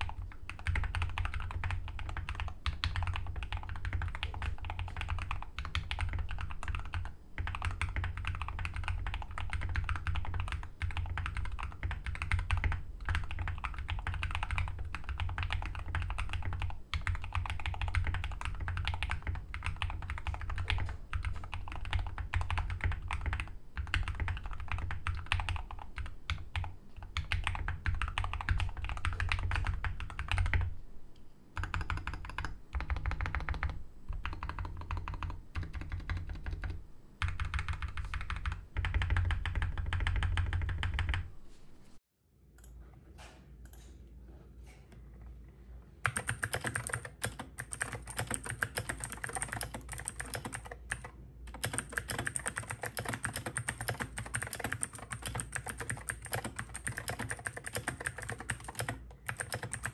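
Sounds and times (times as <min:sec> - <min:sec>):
fast mechanical keyboard typing: 0:00.0 - 0:30.7, 0:31.6 - 0:41.3, 0:46.0 - 0:59.9.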